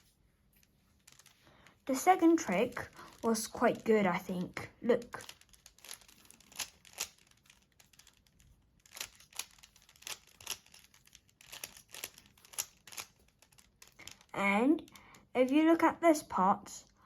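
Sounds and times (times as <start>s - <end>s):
puzzle cube plastic clicks: 0.6s - 15.9s.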